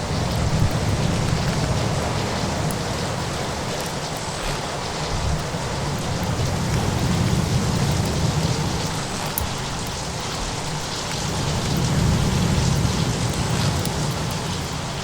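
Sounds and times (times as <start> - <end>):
faint crackles: 0.0 - 15.0
heavy rain hissing: 0.0 - 15.0.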